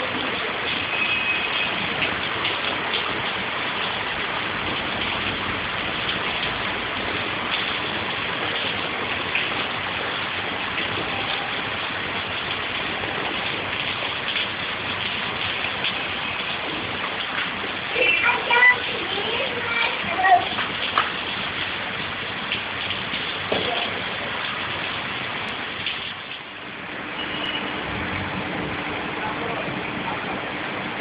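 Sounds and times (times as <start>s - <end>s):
heavy rain pouring: 0.0s - 31.0s
running water: 0.0s - 31.0s.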